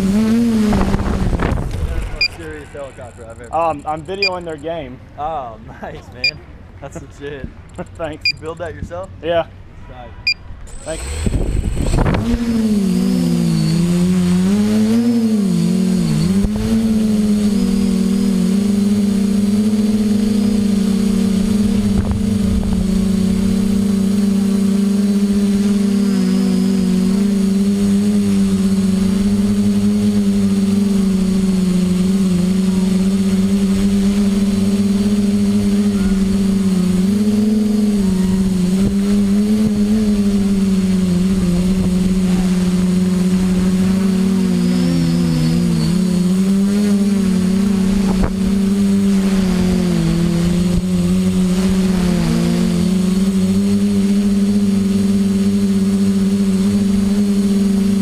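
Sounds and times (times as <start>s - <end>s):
drone propellers humming: 0.0s - 5.3s, 6.2s - 58.0s.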